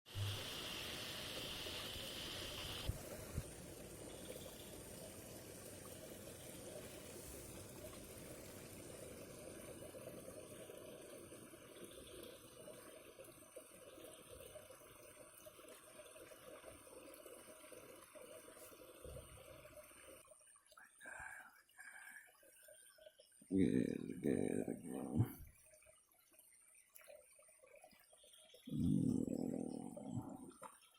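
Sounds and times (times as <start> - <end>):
faint trickling water: 2.8 - 30.9.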